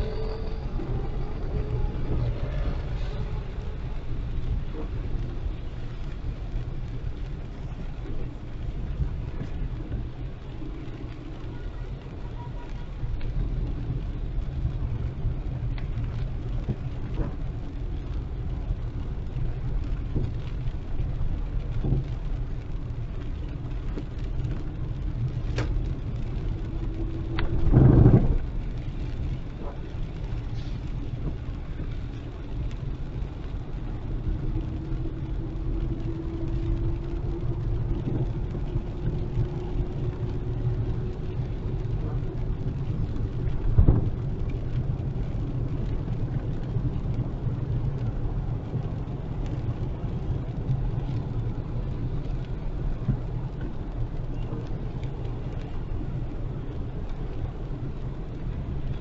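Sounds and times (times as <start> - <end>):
car driving on wet road: 0.0 - 59.0
heavy rain: 0.0 - 59.0.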